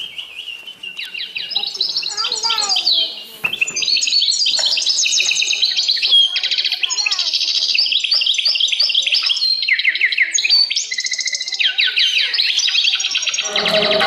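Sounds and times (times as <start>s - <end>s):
birds chirping and trilling: 0.0s - 14.0s.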